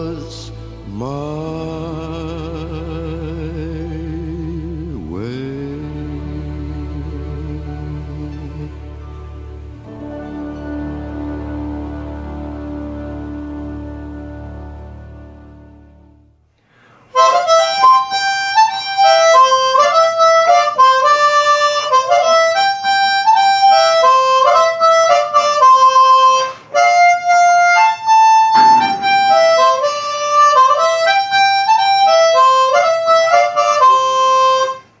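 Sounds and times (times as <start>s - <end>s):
harmonica melody: 0.0s - 16.2s, 17.1s - 35.0s.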